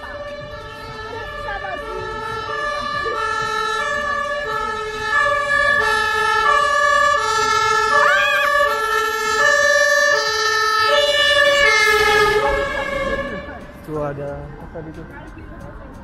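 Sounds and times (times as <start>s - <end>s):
two-tone ambulance siren: 0.0s - 16.0s.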